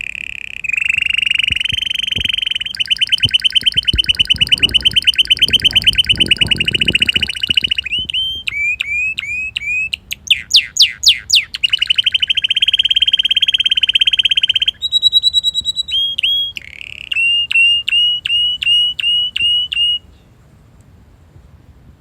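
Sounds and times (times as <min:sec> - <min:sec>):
canary singing: 0:00.0 - 0:20.2.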